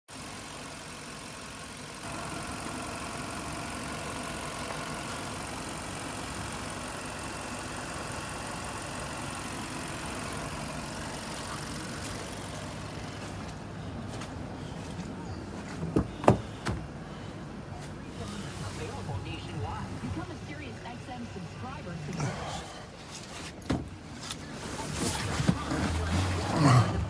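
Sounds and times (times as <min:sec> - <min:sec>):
car engine idling: 0:00.1 - 0:27.0.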